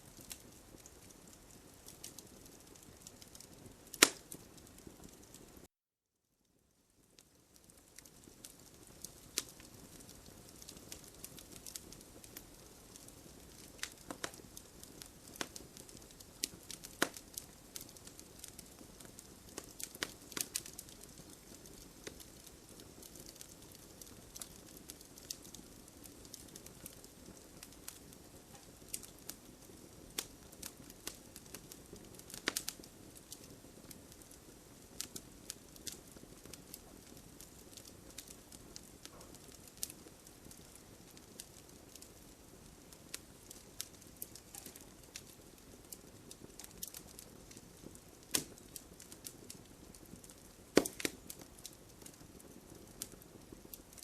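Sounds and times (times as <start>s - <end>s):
wood fire crackling: 0.0s - 5.7s, 6.5s - 54.0s.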